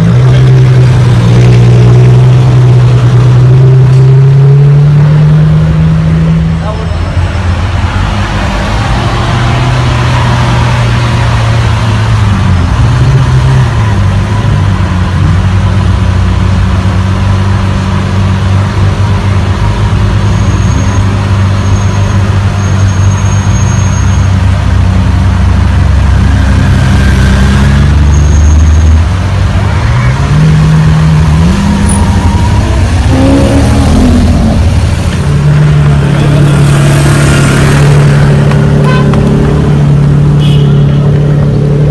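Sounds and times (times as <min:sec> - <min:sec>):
car engines rumbling at low revs: 0:00.0 - 0:41.9.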